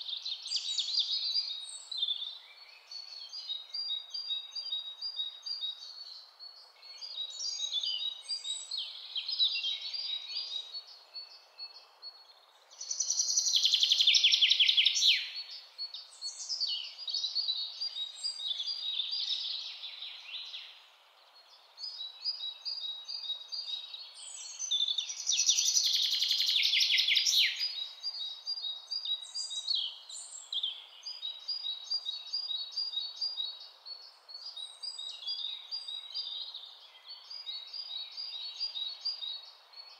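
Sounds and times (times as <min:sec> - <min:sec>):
birds chirping and singing: 0:00.0 - 0:39.9
soft steady hiss: 0:00.0 - 0:39.9.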